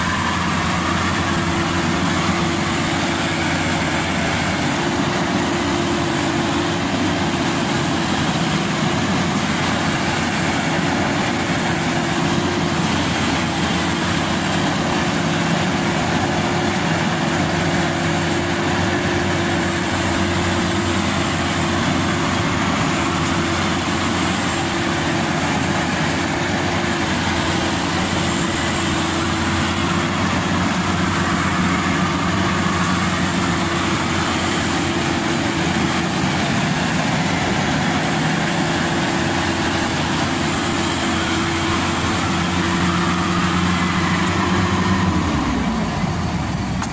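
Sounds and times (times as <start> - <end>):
combine harvester humming: 0.0 - 46.9.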